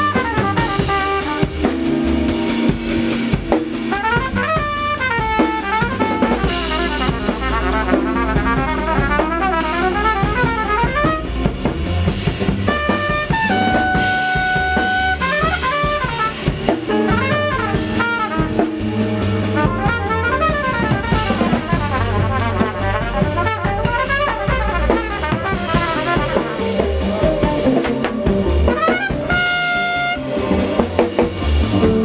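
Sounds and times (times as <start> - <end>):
guitar bass and drums playing: 0.0 - 32.0
jazz trumpet soloing: 0.0 - 32.0.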